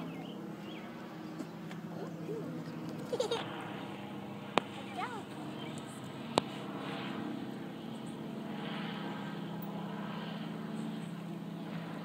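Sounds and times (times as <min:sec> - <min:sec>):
propeller engines droning: 0:00.0 - 0:12.0.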